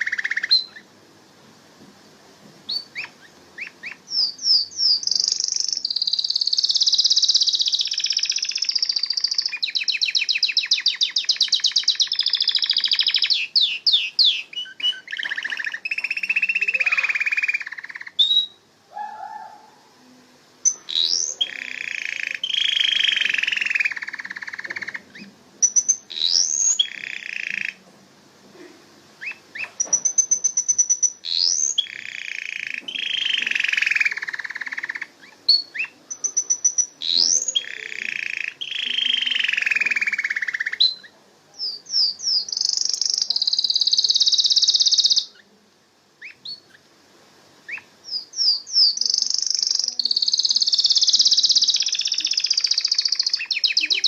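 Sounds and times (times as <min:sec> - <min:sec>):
canary singing trills: 0:00.0 - 0:00.9, 0:02.7 - 0:27.8, 0:29.2 - 0:45.6, 0:46.2 - 0:46.9, 0:47.6 - 0:54.0.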